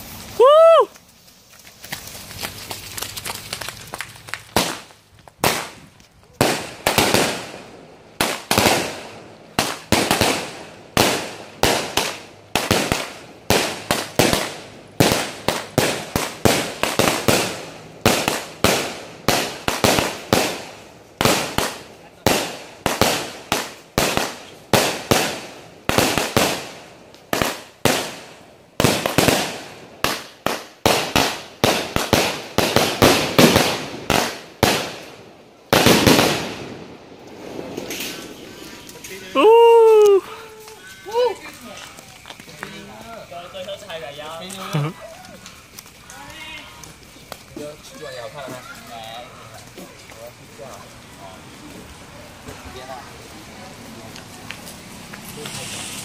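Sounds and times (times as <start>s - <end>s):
crackling firework tails: 0.0s - 56.0s
fireworks bursting with bangs: 0.0s - 56.0s.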